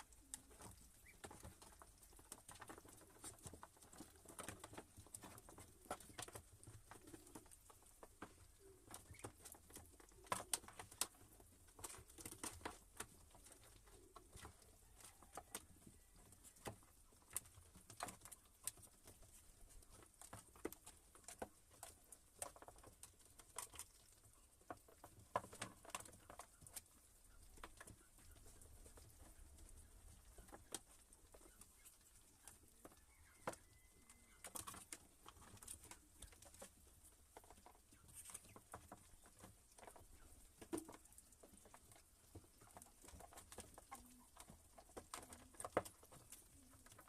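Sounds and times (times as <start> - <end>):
birds pecking light taps: 0.0 - 47.0.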